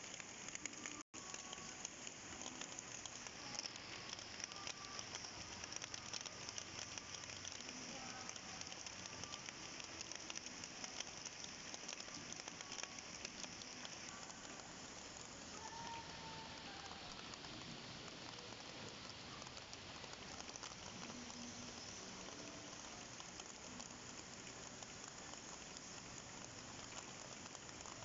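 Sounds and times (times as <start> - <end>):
rain pattering: 0.0 - 28.0.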